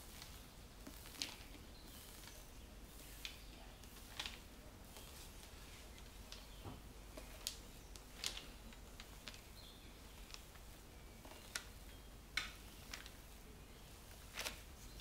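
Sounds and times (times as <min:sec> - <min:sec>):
paper crinkling: 0:00.0 - 0:02.4, 0:03.0 - 0:06.5, 0:07.1 - 0:11.8, 0:12.4 - 0:15.0
faint hiss: 0:00.0 - 0:15.0.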